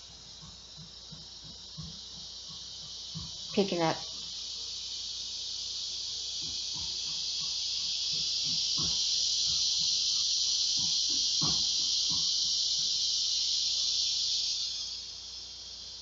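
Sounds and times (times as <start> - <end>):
cicada buzzing drone: 0.0 - 16.0.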